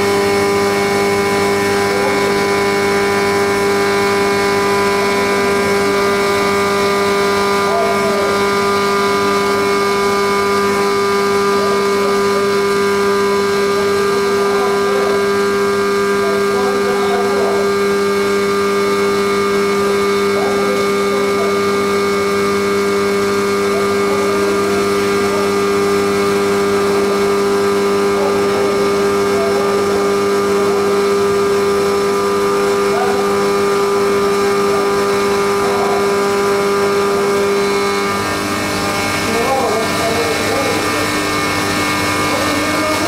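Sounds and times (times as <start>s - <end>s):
milling machine hum and whine: 0.0s - 43.0s.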